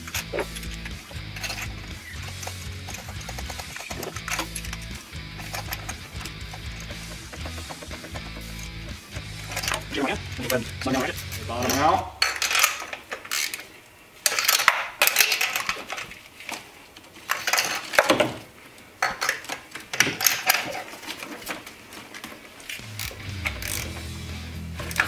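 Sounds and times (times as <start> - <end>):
metal tools clinking: 0.0 - 16.2, 17.1 - 18.4, 19.0 - 24.1, 24.8 - 25.0.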